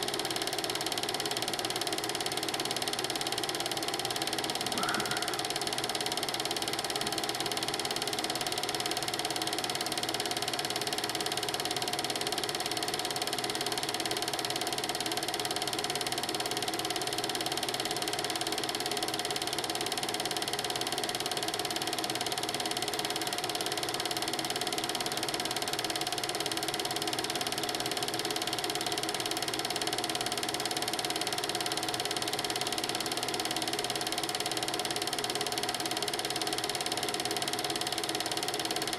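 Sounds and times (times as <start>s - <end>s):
film projector clattering: 0.0s - 38.9s.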